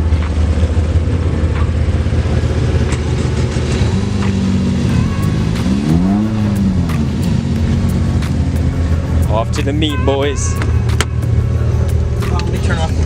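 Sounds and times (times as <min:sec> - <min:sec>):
car engine and road drone: 0:00.0 - 0:13.0
rising and falling pitched sound: 0:00.0 - 0:13.0.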